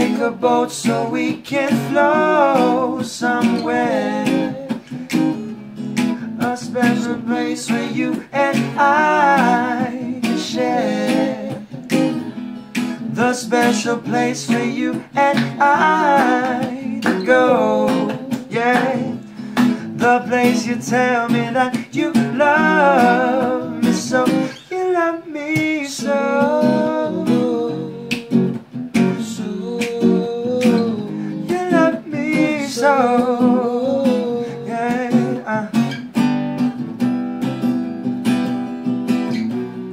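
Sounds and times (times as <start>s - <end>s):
person singing: 0.0s - 5.2s, 6.1s - 11.8s, 13.1s - 28.5s, 29.1s - 36.0s
strummed acoustic guitar: 0.0s - 39.9s.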